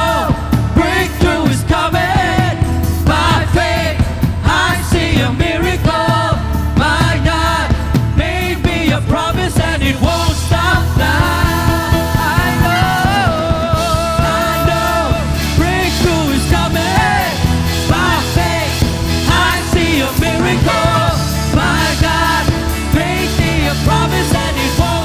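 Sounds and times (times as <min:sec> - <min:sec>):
lead singer singing: 0:00.0 - 0:25.0
worship band playing: 0:00.0 - 0:25.0.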